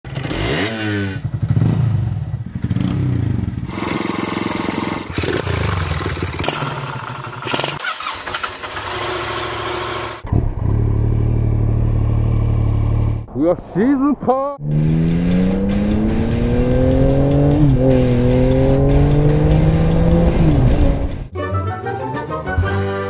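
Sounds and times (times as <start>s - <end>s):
motorcycle engine revving: 0.1s - 13.3s, 14.6s - 21.3s.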